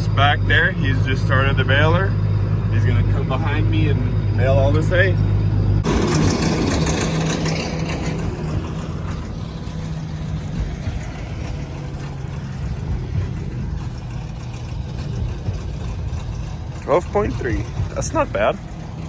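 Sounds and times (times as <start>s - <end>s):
machinery rattling: 0.0s - 19.0s
tractor engine running: 0.0s - 19.0s.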